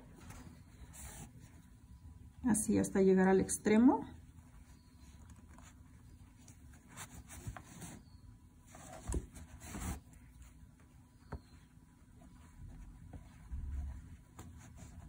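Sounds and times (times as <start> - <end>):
needle and thread through fabric: 0.0 - 1.8, 3.9 - 15.0.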